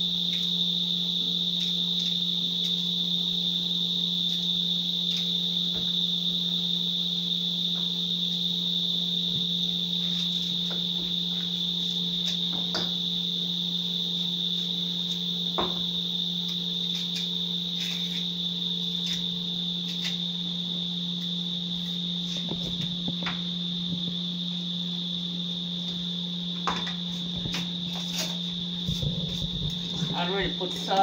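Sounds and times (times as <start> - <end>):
cricket chirring: 0.0 - 31.0
low steady hum: 0.0 - 31.0.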